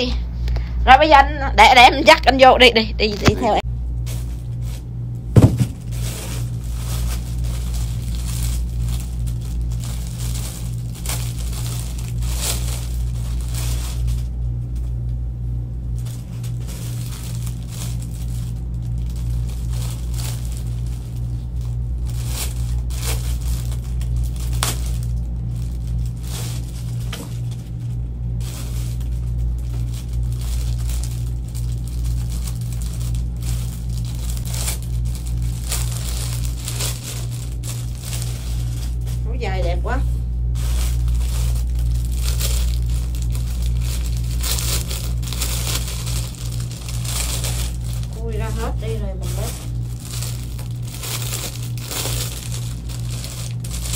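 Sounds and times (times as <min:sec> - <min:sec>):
steady low hum: 0:00.0 - 0:53.9
plastic bags crinkling: 0:03.1 - 0:53.9.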